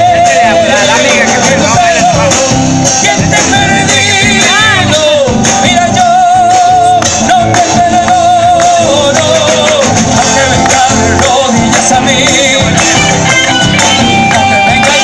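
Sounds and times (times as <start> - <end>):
live band playing: 0.0 - 15.0
singer with vibrato: 0.0 - 15.0.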